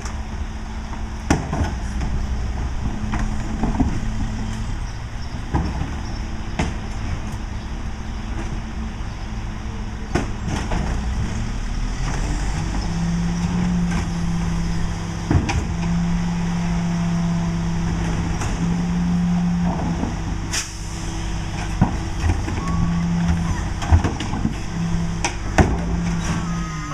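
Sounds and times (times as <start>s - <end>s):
garbage truck diesel engine rumbling: 0.0s - 26.9s.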